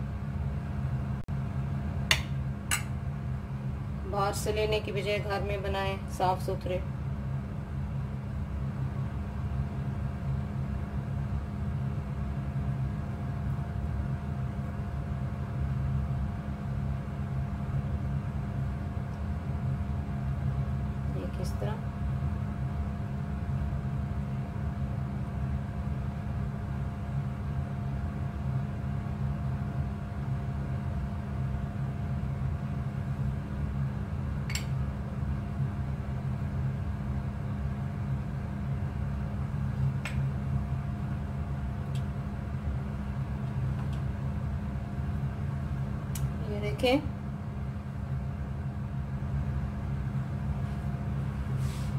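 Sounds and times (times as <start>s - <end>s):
low mechanical motor hum: 0.0s - 51.9s.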